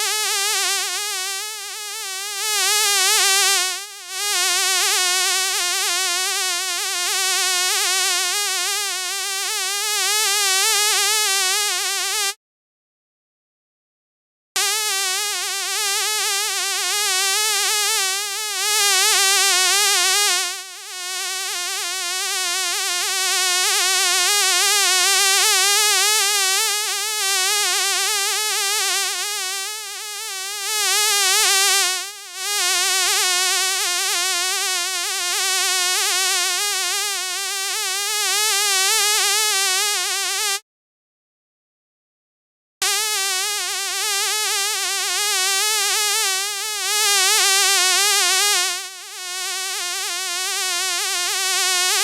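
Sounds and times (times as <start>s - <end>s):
housefly buzzing: 0.0s - 12.4s, 14.6s - 40.6s, 42.8s - 52.0s.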